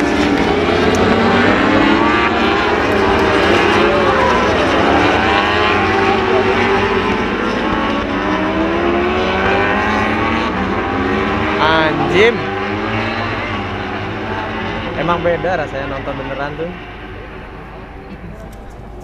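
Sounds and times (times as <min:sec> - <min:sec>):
motorcycle engines at high revs: 0:00.0 - 0:19.0.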